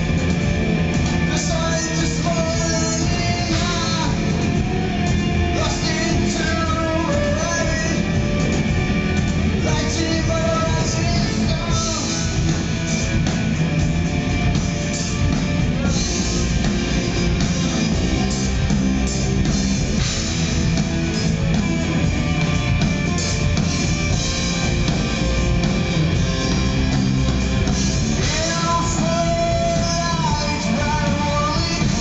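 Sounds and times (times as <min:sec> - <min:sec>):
distorted electric guitar: 0:00.0 - 0:32.0
drum kit: 0:00.0 - 0:32.0
electric bass: 0:00.0 - 0:32.0.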